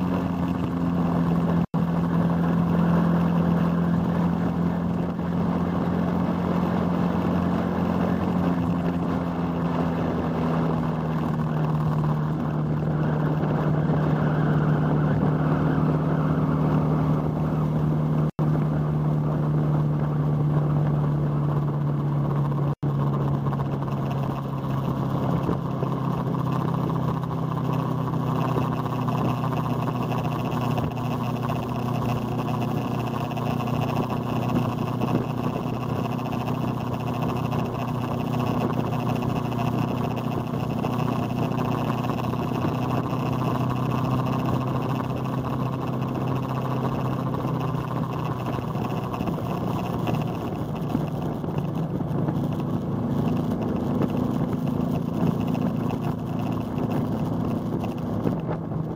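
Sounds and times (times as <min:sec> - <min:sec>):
motorcycle engine cruising: 0:00.0 - 0:58.9
wind and road noise: 0:00.0 - 0:58.9.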